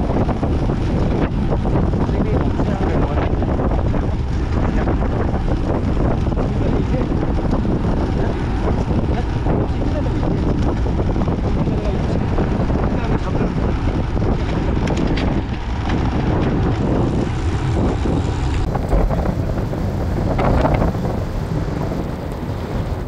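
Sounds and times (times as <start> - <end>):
low rumble of travel: 0.0 - 23.0
wind buffeting microphone: 0.0 - 23.0.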